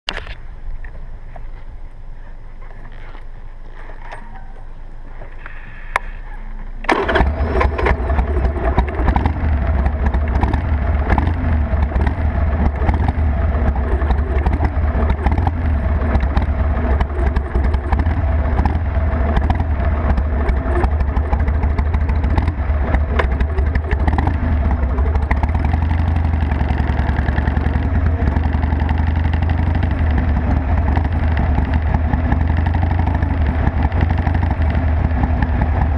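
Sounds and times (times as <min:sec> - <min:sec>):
motorcycle engine starting and idling: 0:02.9 - 0:35.9.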